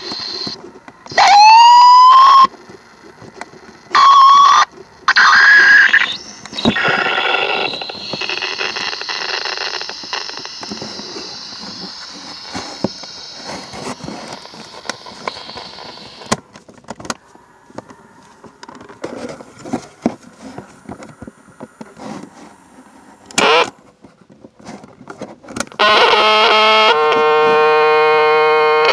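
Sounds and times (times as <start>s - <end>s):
cassette speaker hissing and crackling: 0.0s - 28.9s.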